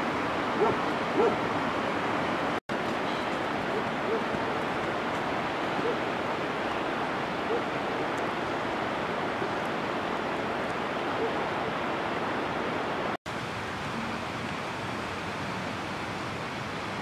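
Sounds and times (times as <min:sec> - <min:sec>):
rocky river rushing: 0:00.0 - 0:17.0.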